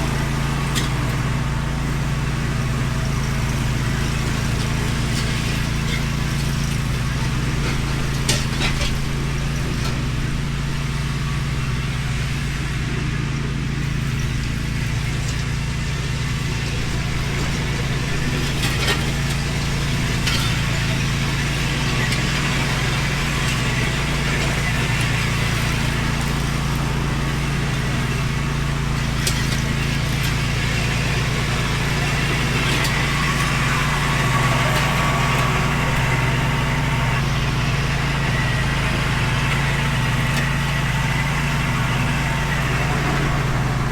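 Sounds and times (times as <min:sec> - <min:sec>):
mower engine running: 0:00.0 - 0:43.9.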